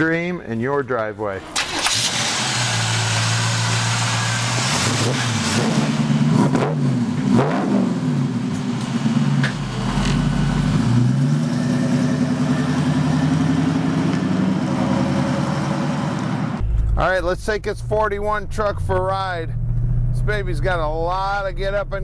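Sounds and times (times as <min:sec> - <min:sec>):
vee eight engine revving: 0:01.6 - 0:22.0.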